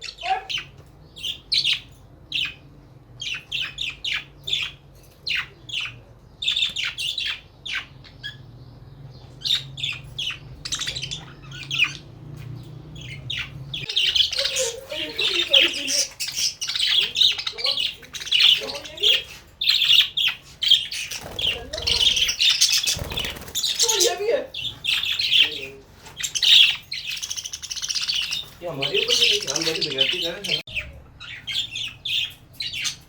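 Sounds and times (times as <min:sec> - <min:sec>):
parrots squawking and chirping: 0:00.0 - 0:33.0.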